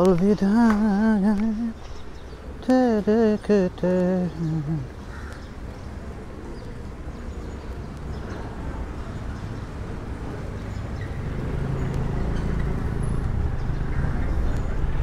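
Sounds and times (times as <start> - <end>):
rumble of motor traffic: 0.0 - 15.0.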